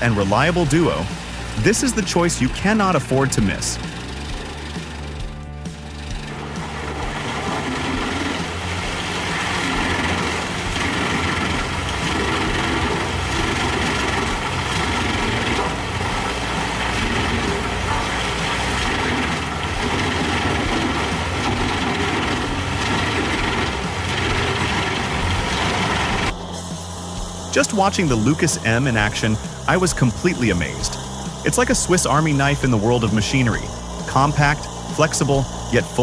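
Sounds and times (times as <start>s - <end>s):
wood chipper engine drone: 0.0s - 36.0s.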